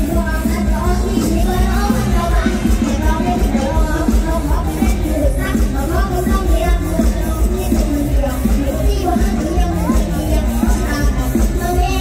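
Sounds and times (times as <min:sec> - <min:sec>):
band music with pulsing bass: 0:00.0 - 0:12.0.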